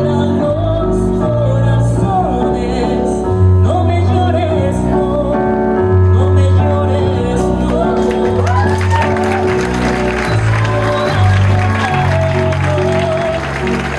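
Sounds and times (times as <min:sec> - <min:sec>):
held bass notes: 0:00.0 - 0:13.9
song with wavering sung melody: 0:00.0 - 0:13.9.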